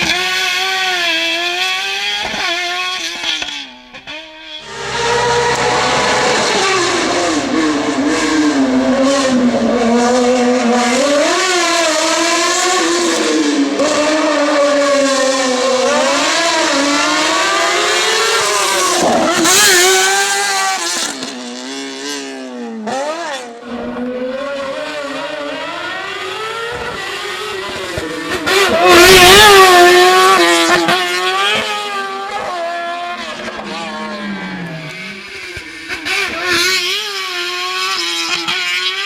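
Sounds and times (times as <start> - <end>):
race car engine accelerating: 4.6 - 39.0.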